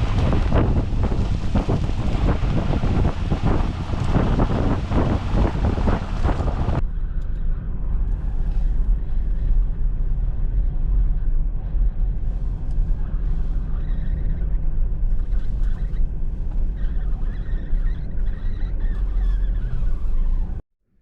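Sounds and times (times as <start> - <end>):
moving vehicle rumble: 0.0 - 20.6
wind buffeting microphone: 0.0 - 20.6.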